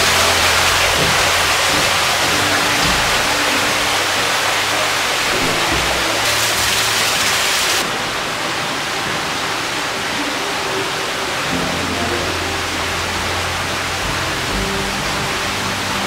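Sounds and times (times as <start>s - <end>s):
water rushing in a cave: 0.0s - 16.0s.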